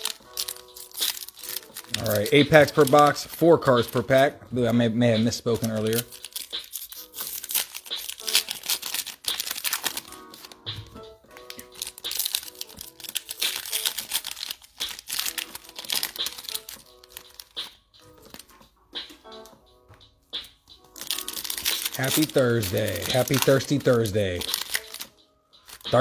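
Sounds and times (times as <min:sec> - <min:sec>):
foil wrappers crinkling and tearing: 0:00.0 - 0:04.3, 0:05.2 - 0:19.6, 0:20.9 - 0:26.0
quiet background music: 0:00.0 - 0:26.0.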